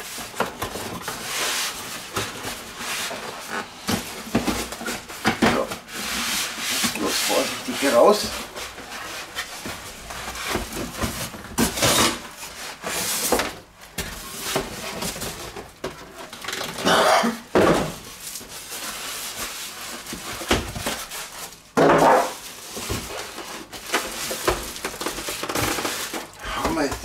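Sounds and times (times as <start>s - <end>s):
styrofoam rubbing and squeaking: 0.0s - 13.4s, 18.0s - 27.0s
plastic wrap rustling: 0.0s - 27.0s.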